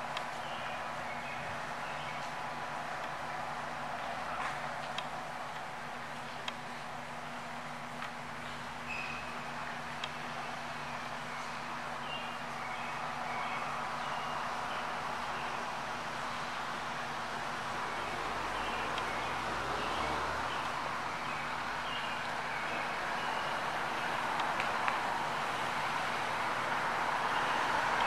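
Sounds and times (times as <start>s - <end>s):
distant traffic: 0.0s - 28.0s.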